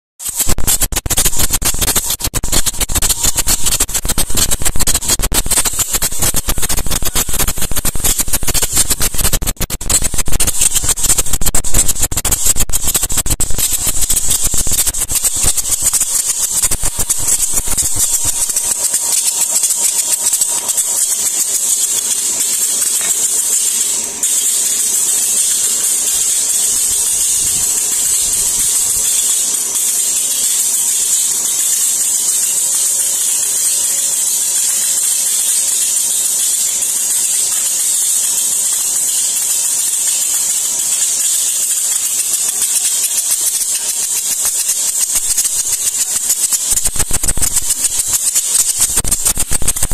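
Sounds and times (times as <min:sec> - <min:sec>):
machine mechanical clatter: 0:00.2 - 0:49.9
steady high hiss: 0:00.2 - 0:49.9.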